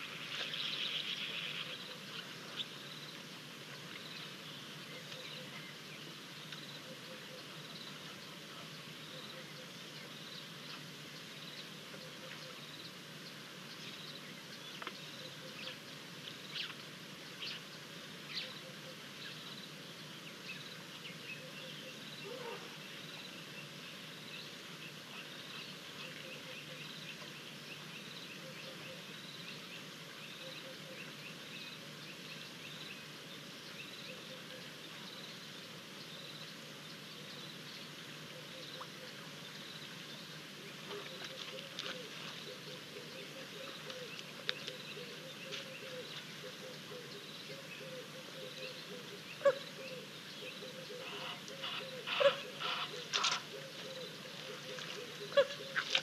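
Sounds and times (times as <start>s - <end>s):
birds chirping: 0.0s - 56.0s
steady outdoor hiss: 0.0s - 56.0s.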